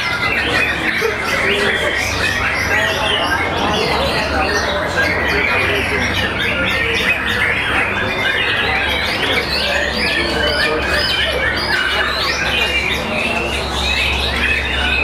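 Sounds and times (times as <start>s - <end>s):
birds singing whistled notes: 0.0s - 15.0s.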